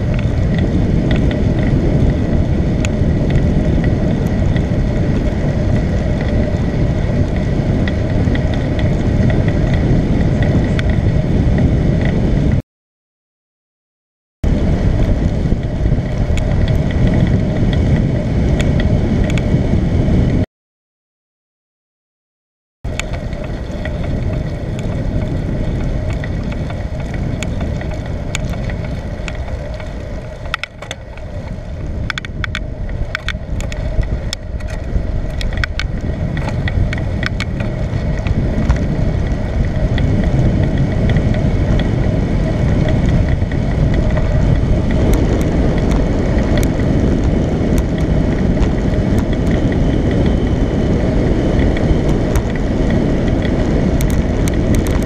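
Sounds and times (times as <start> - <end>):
sharp clicks and rattles: 0.0 - 12.3, 14.5 - 19.6, 22.9 - 55.0
bicycle ride rumble: 0.0 - 12.6, 14.4 - 20.5, 22.8 - 55.0
tyre and road noise: 0.0 - 12.6, 14.4 - 20.4, 22.8 - 55.0
wind on microphone: 0.0 - 12.6, 14.4 - 20.4, 22.9 - 55.0.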